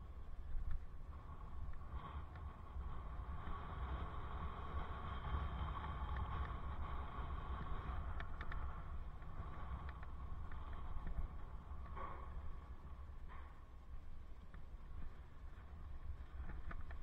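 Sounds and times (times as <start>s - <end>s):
tyres rumbling on asphalt: 0.0s - 17.0s
wind rushing over microphone: 0.0s - 17.0s.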